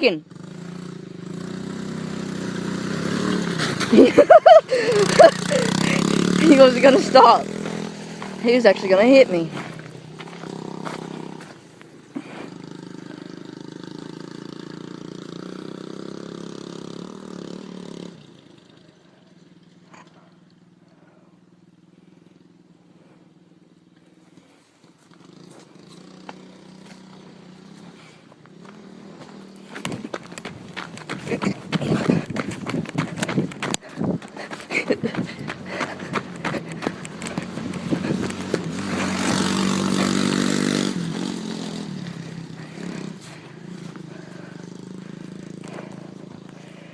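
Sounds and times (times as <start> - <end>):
dirt bike engine: 0.0 - 46.9.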